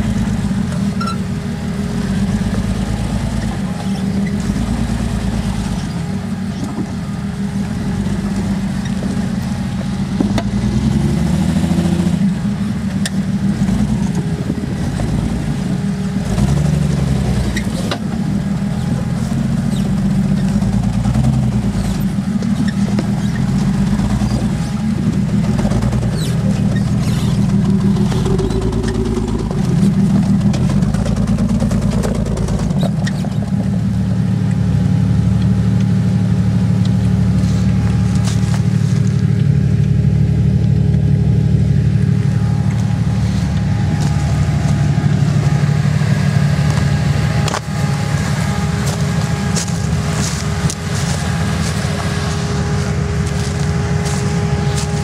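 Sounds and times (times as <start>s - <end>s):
off-road vehicle engine under load: 0.0s - 55.0s.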